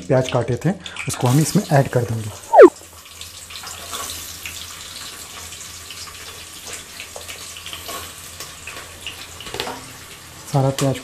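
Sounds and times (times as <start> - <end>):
onions sizzling in hot oil: 0.4 - 11.0.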